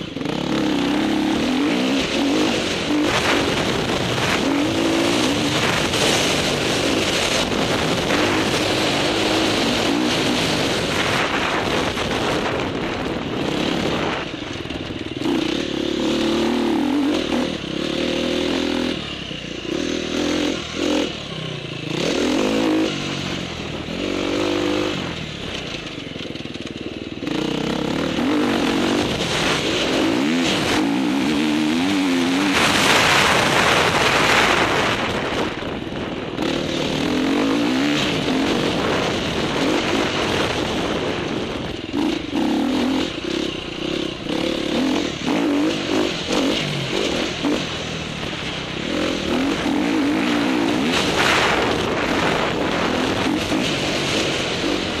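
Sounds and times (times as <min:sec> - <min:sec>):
wind rushing over microphone: 0:00.0 - 0:26.2, 0:27.2 - 0:55.0
dirt bike engine revving: 0:00.0 - 0:55.0.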